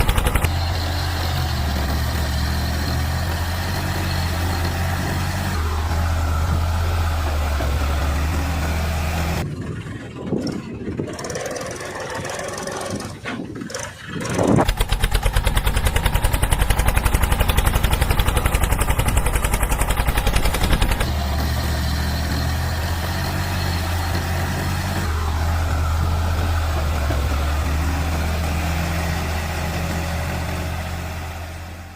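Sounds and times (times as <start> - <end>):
tractor diesel engine humming: 0.0 - 31.9.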